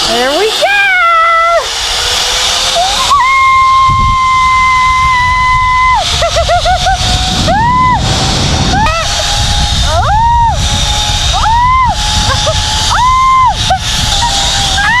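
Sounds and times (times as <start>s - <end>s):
zipline trolley whining on cable: 0.0s - 15.0s
wind rushing across microphone: 2.8s - 15.0s.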